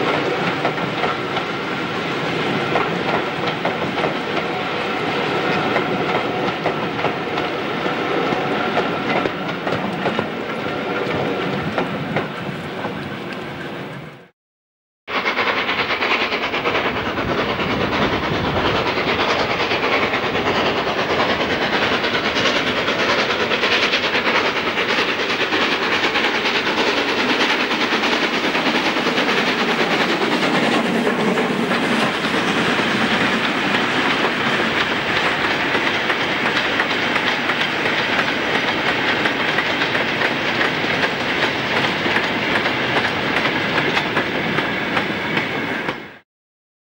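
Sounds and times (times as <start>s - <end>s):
steam locomotive working past: 0.0s - 14.3s, 15.1s - 46.2s.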